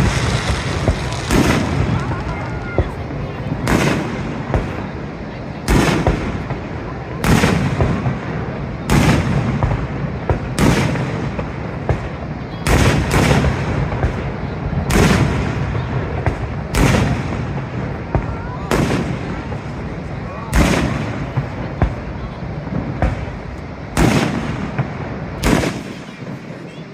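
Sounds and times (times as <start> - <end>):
fireworks booming: 0.0 - 26.9.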